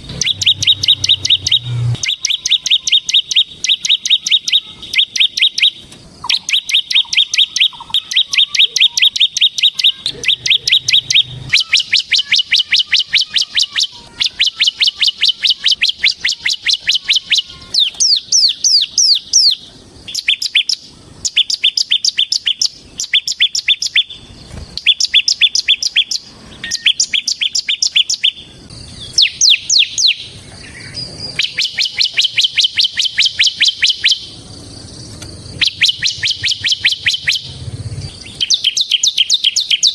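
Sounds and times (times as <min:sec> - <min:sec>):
bird falling whistles: 0:00.0 - 0:28.4, 0:31.0 - 0:34.3, 0:35.5 - 0:37.5, 0:38.1 - 0:39.9
bird singing rapid repeated notes: 0:00.0 - 0:39.9.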